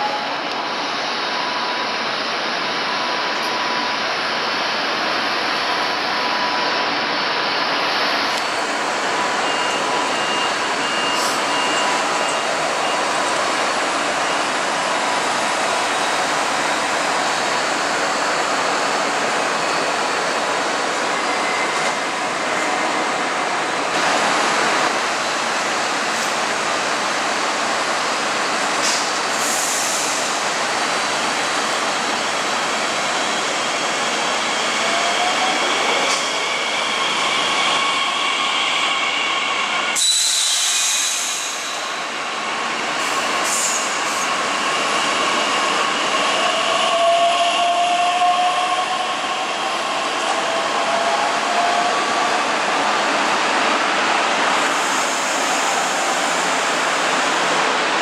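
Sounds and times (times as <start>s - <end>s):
train and station noise: 0.0s - 58.0s.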